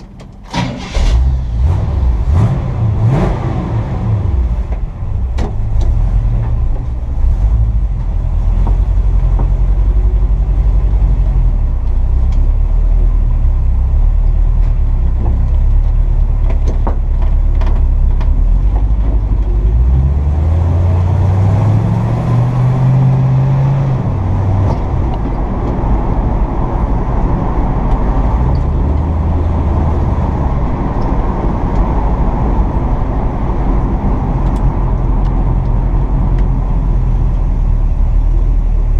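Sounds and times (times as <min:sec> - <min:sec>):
pickup engine running: 0:03.9 - 0:38.9.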